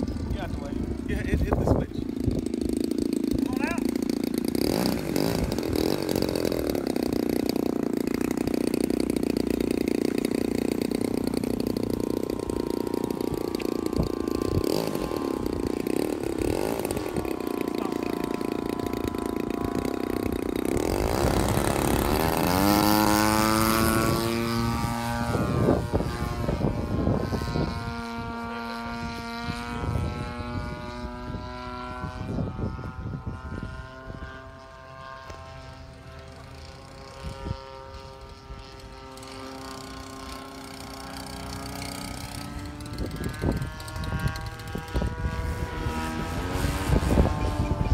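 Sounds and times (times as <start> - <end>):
model airplane engine running: 0.0 - 47.9.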